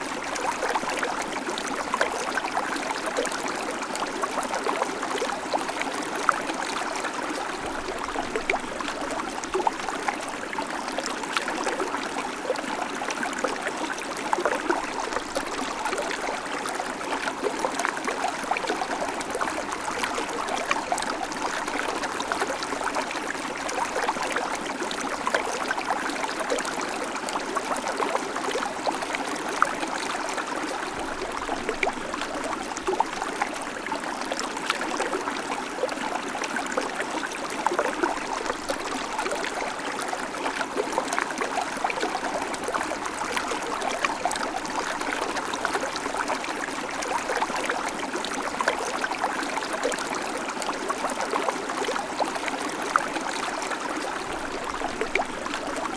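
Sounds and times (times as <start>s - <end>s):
stream trickling over stones: 0.0s - 55.9s.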